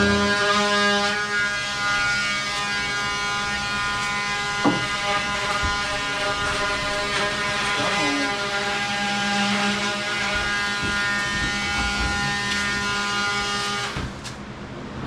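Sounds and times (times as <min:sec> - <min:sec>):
electric motor humming: 0:00.0 - 0:14.2.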